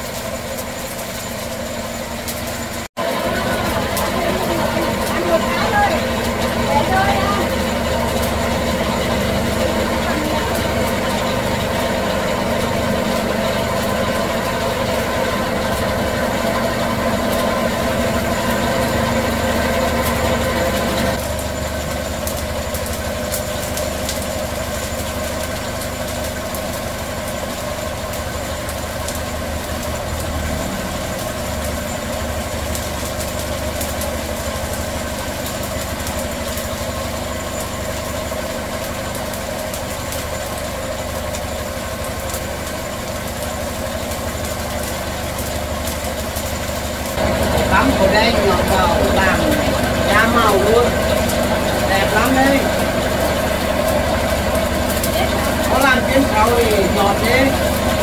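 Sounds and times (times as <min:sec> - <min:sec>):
electric motor humming: 0:02.4 - 0:40.5, 0:42.7 - 0:58.0.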